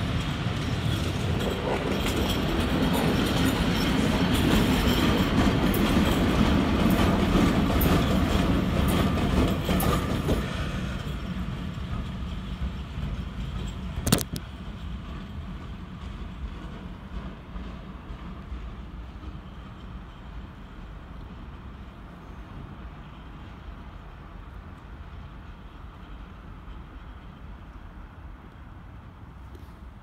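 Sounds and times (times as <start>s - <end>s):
locomotives wheel and rail rumble: 0.0s - 30.0s.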